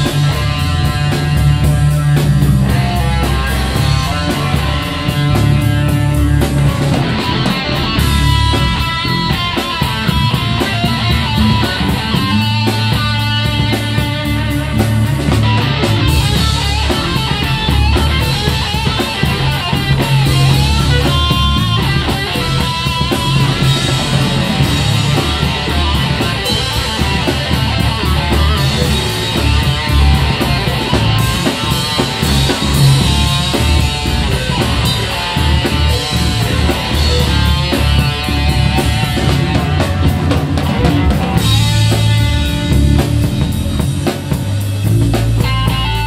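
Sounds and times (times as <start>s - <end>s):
drum kit: 0.0s - 46.0s
electric guitar: 0.0s - 46.0s.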